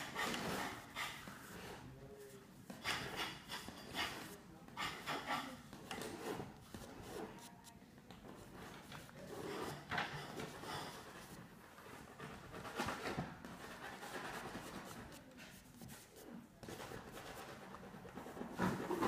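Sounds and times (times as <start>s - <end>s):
fingertips rubbing on paper: 0.0s - 18.8s.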